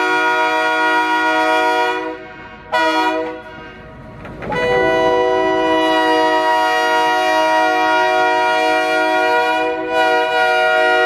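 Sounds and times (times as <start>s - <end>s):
train air horn blasts: 0.0s - 11.0s.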